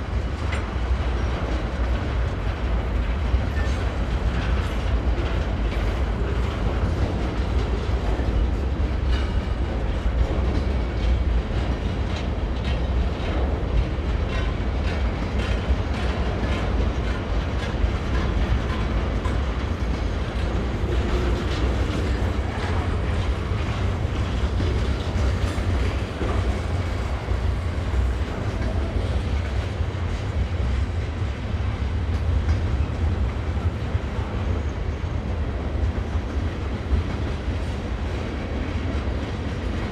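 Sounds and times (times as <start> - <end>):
train rumbling past: 0.0 - 39.9
wheels clicking on rails: 0.0 - 39.9.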